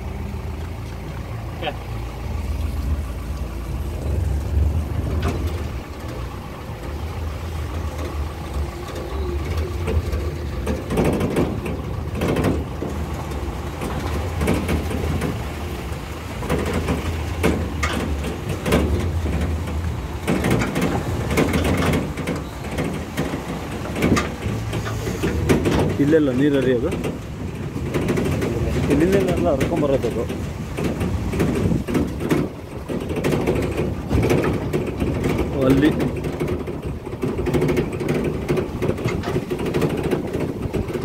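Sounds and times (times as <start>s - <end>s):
knocks and rattles from bumps: 0.0s - 41.0s
vehicle engine at low revs: 0.0s - 41.0s.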